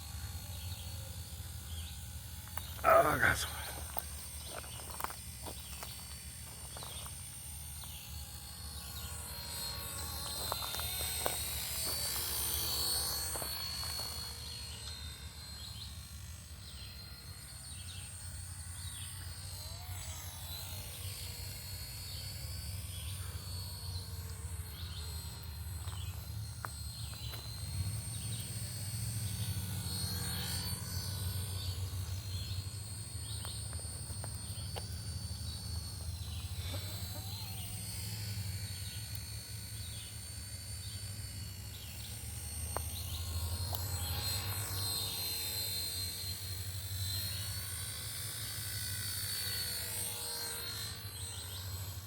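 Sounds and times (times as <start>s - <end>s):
model helicopter rotor whine: 0.0s - 52.0s.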